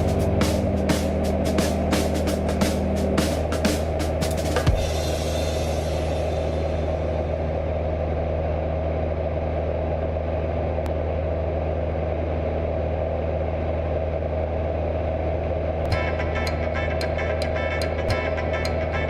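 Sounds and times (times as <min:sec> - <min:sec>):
light aircraft engine drone: 0:00.0 - 0:19.0.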